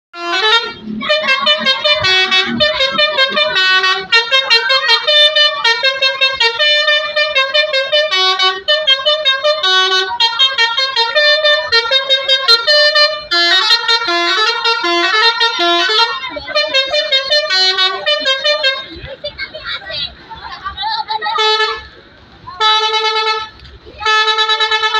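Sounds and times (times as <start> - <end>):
multi-tone musical bus horn: 0.1 - 19.6, 21.2 - 22.0, 22.6 - 24.9.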